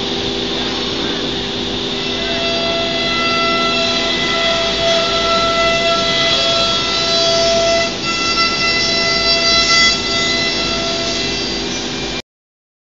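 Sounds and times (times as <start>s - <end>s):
wood router machine whining: 0.0s - 12.2s.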